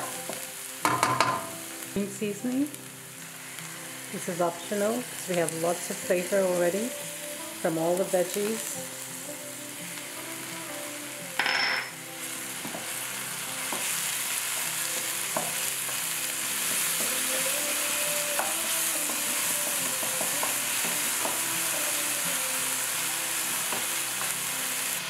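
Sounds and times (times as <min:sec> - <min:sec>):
onion frying in oil sizzling: 0:00.0 - 0:25.0.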